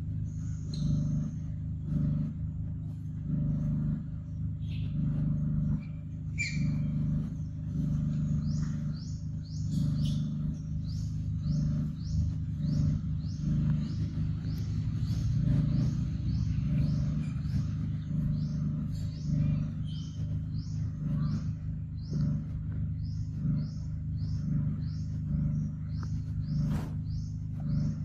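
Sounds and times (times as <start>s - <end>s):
bird chirping: 0.0s - 28.0s
low motor-like hum: 0.0s - 28.0s.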